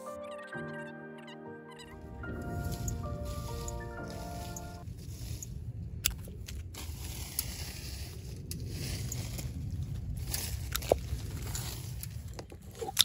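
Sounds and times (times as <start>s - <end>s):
low rumble: 2.0s - 12.9s.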